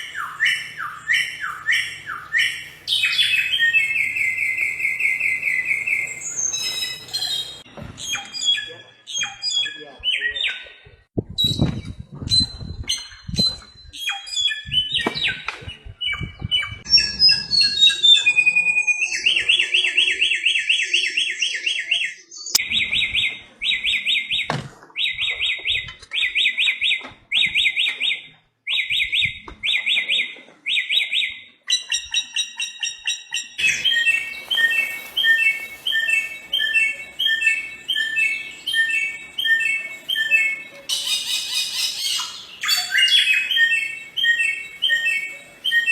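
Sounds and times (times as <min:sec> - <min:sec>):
bird singing whistled song: 0:00.0 - 0:10.7, 0:11.4 - 0:45.9.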